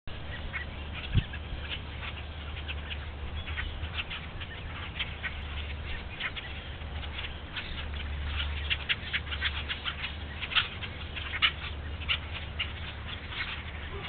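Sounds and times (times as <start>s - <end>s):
crackles and rustles in stubble: 0.1s - 14.0s
steady low hum: 0.1s - 14.0s.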